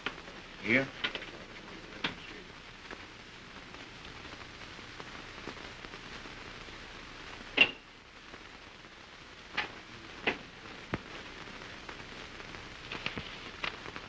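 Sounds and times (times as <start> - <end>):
film soundtrack hiss and crackle: 0.0 - 14.0.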